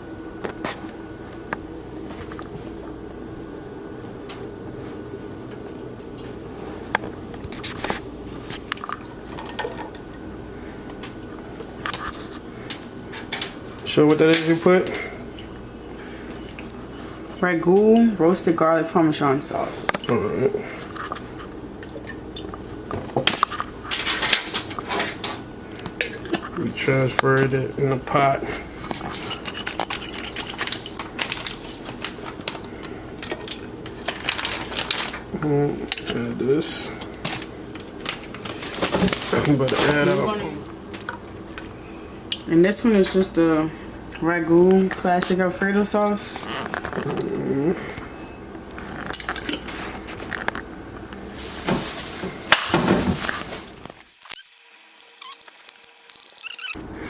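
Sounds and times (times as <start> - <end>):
steady low hum: 0.0 - 54.3.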